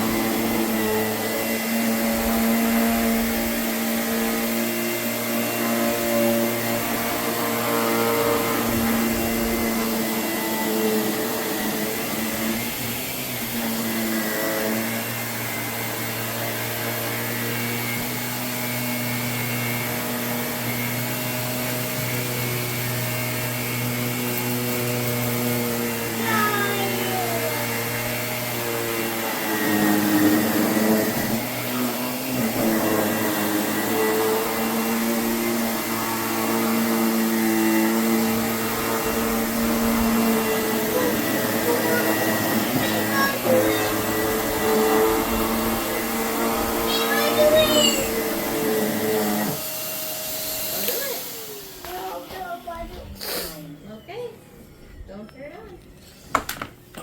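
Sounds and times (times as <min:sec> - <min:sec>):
vacuum cleaner running: 0:00.0 - 0:54.3.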